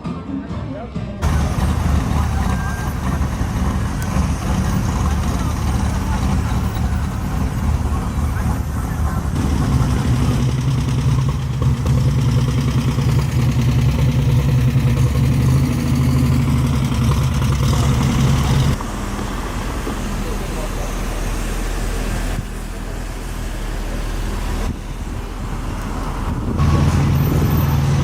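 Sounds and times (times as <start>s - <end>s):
car engine idling: 1.2s - 28.0s.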